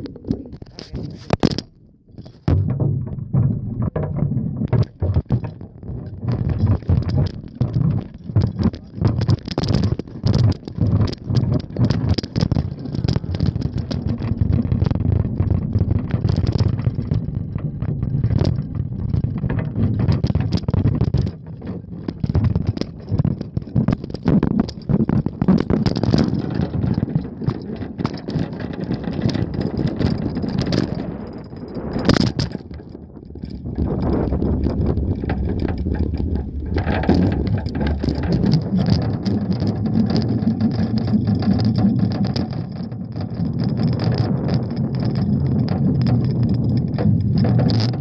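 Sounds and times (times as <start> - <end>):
bike basket knocks and rattles: 0.0 - 48.0
wind and road rumble: 0.0 - 48.0.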